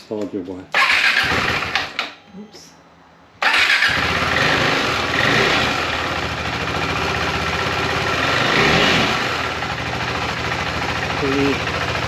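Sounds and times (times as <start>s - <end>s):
motorcycle engine idling and revving: 0.7s - 2.0s, 3.4s - 12.0s.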